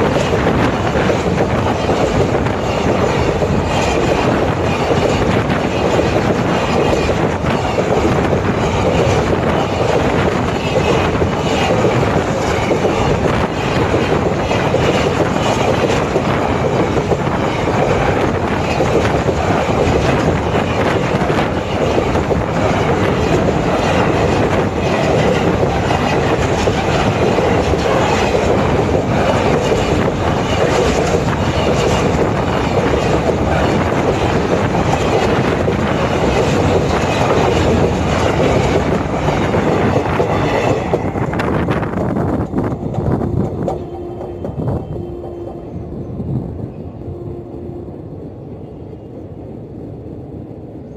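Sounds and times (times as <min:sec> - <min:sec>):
train wheels rumbling and rattling: 0:00.0 - 0:50.9.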